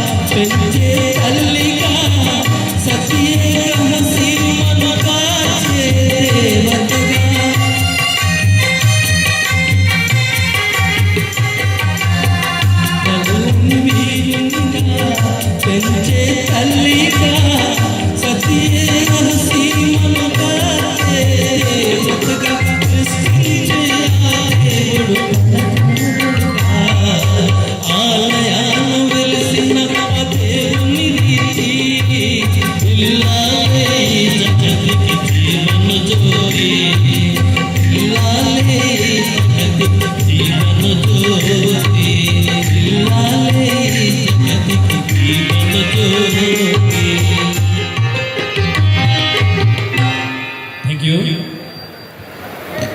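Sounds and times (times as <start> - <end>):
folk music with percussion beat: 0.0 - 50.8.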